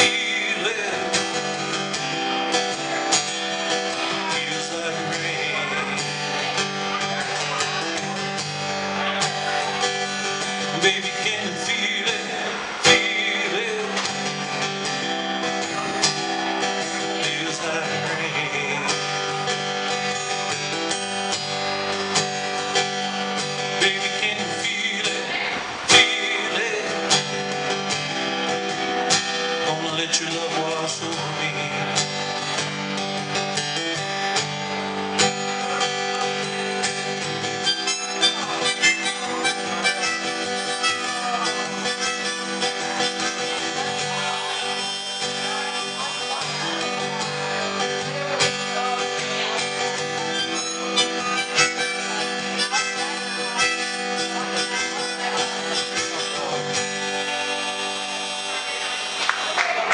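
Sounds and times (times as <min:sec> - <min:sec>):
acoustic guitar strumming: 0:00.0 - 0:59.9
sustained melodic guitar notes: 0:00.0 - 0:59.9.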